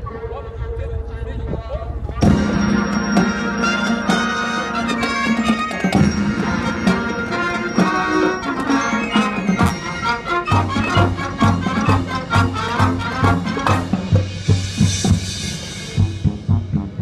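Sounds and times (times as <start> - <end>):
drum strikes: 2.2 - 17.0
marching wind band playing: 2.2 - 17.0.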